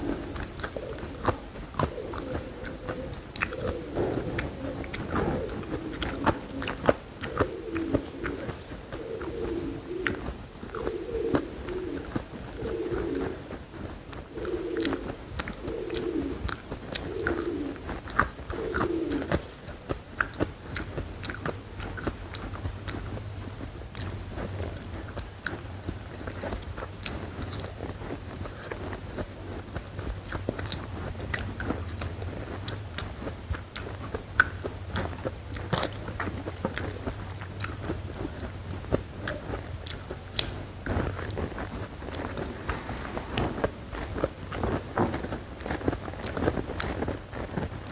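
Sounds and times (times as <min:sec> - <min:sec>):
wet mouth clicks: 0:00.0 - 0:13.3, 0:14.4 - 0:23.2, 0:24.0 - 0:47.1
crunchy chewing of food: 0:00.0 - 0:47.9
dove cooing: 0:00.0 - 0:47.9.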